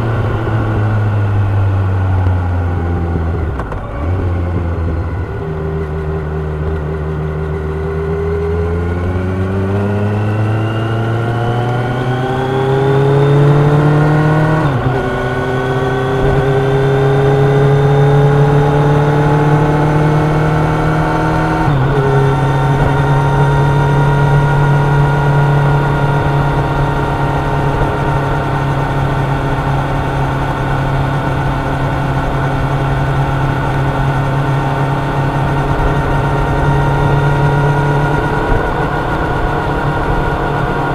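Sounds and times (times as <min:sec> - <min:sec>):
motorcycle engine revving through gears: 0:00.0 - 0:40.9.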